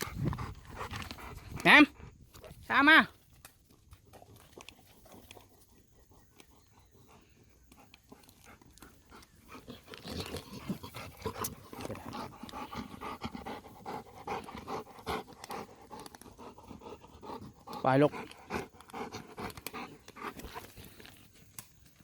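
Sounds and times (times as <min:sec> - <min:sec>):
dog panting: 0:00.0 - 0:02.5, 0:04.0 - 0:21.2.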